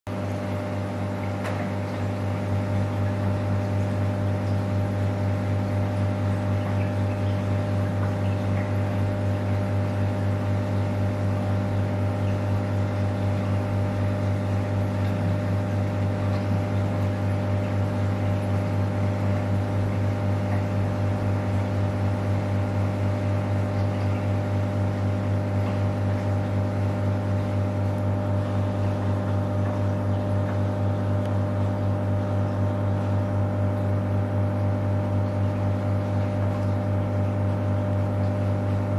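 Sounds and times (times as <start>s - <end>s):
aquarium pump humming: 0.1s - 38.9s.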